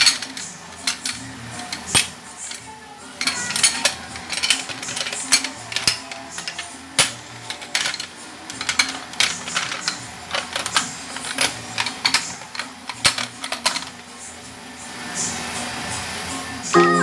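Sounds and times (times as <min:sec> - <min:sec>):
kitchen items clinking and clattering: 0:00.0 - 0:14.2.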